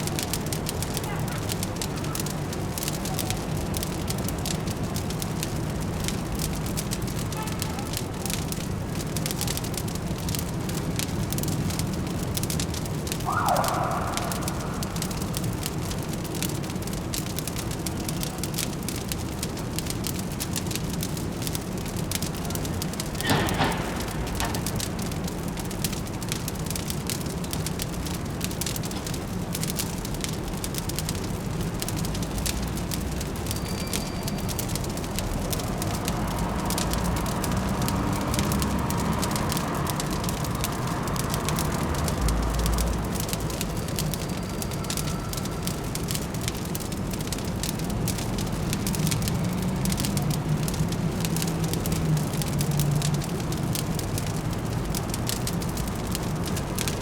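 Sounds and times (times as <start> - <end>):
distant city traffic hum: 0.0 - 57.0
fireplace crackling: 0.0 - 57.0.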